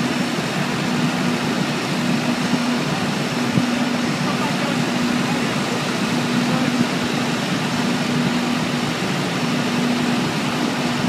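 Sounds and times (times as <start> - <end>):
ground support machinery droning: 0.0 - 11.0.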